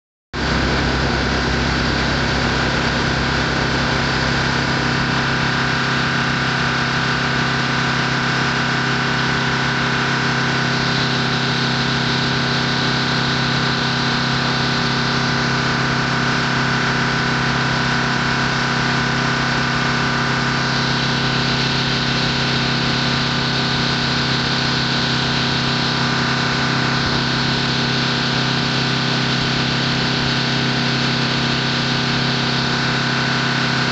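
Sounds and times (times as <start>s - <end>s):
engine idling: 0.4s - 33.9s.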